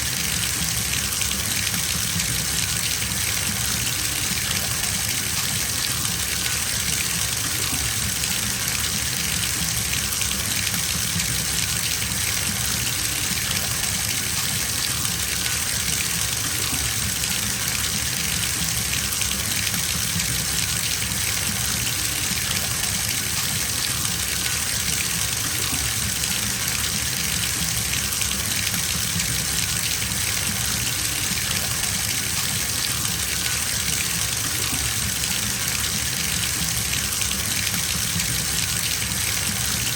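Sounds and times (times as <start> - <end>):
water running into a bathtub: 0.0 - 39.9.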